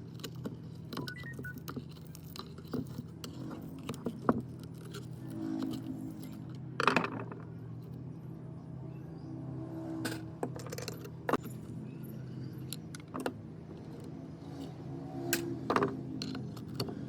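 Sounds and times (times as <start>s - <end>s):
small metal parts clinking: 0.0s - 8.1s, 10.0s - 17.0s.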